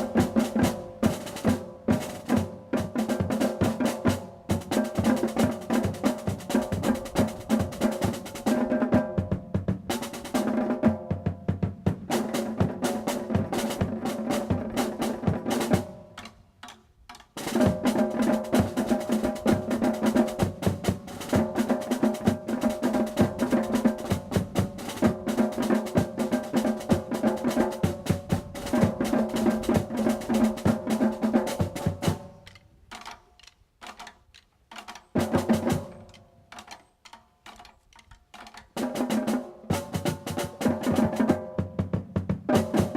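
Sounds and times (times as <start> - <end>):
marching snare and bass drums: 0.0 - 42.9.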